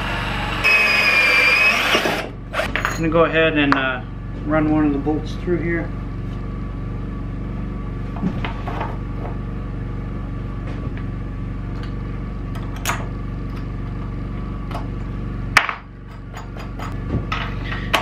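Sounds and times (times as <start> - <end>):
steady low hum: 2.2 - 18.0.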